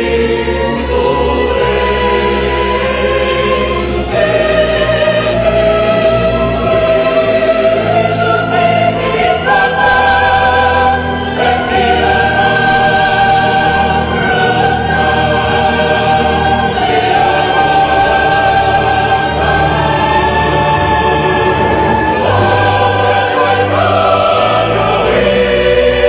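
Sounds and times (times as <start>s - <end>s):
mixed choir singing held chords: 0.0s - 26.0s
string orchestra: 0.0s - 26.0s.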